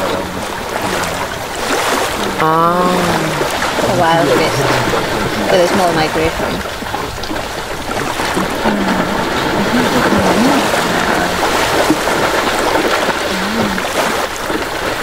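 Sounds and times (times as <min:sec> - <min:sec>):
animals splashing through river: 0:00.0 - 0:15.0
water rushing: 0:00.0 - 0:15.0.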